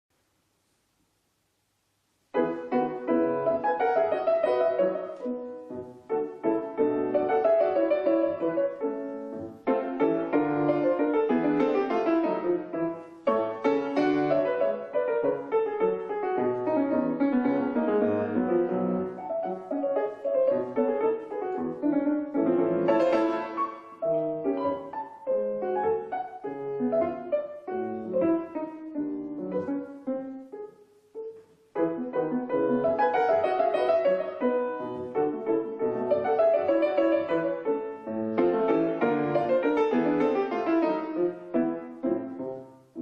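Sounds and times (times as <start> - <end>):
slow classical piano chords: 2.2 - 43.0.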